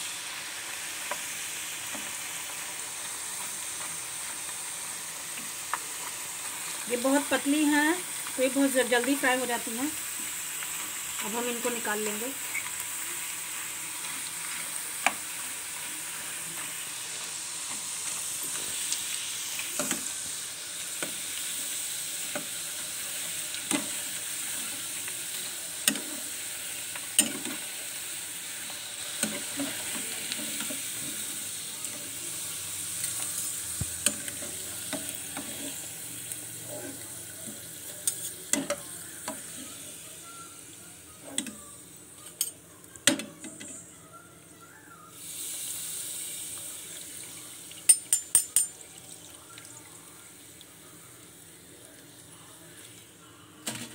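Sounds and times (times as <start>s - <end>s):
chips sizzling in oil: 0.0s - 53.9s.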